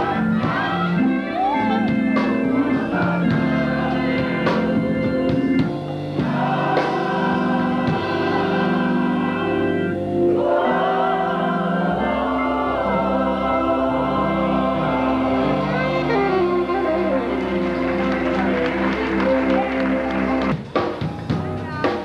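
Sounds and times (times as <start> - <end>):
gospel choir singing: 0.0 - 20.6.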